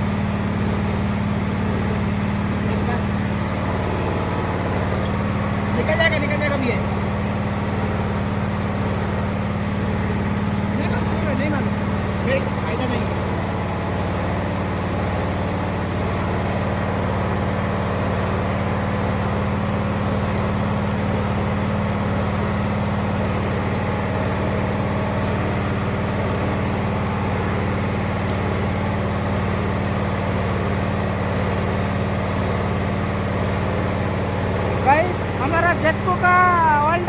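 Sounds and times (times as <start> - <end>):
machine hum: 0.0 - 37.0.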